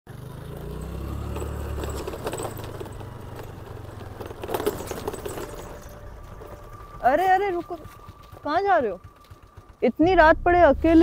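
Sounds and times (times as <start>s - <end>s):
scooter engine hum: 0.1s - 11.0s.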